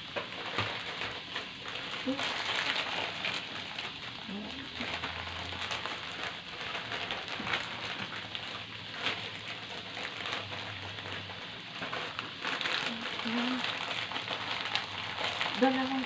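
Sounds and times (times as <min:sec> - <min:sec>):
plastic wrappers crinkling: 0:00.0 - 0:16.0.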